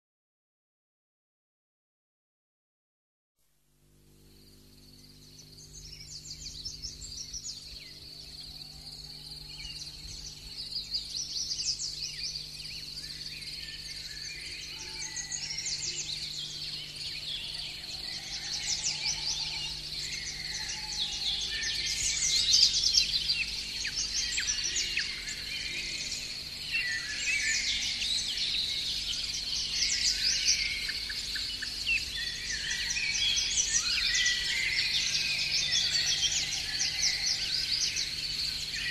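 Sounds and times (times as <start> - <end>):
songbirds singing and chirping: 3.9 - 38.9.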